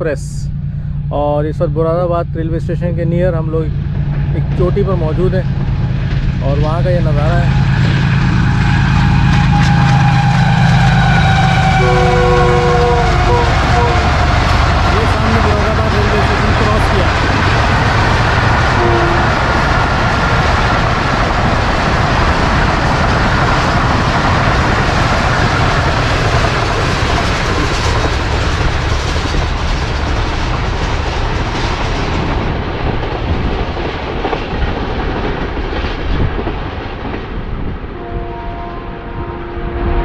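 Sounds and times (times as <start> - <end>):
train rushing past: 0.0 - 40.0.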